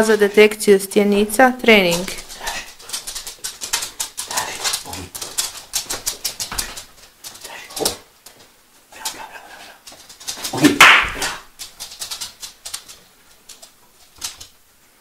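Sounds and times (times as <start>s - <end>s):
dog claws tapping on wooden floor: 1.3s - 14.6s.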